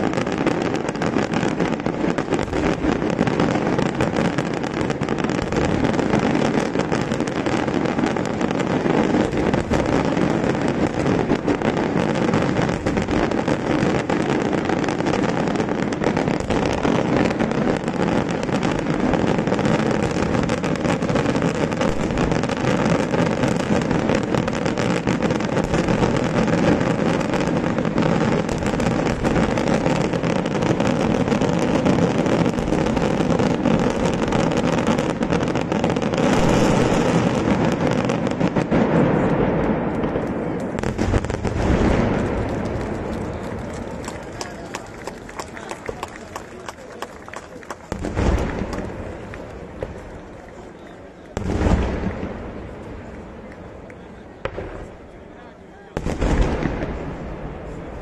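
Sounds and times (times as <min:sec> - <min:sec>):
fireworks barrage: 0:00.0 - 0:58.0.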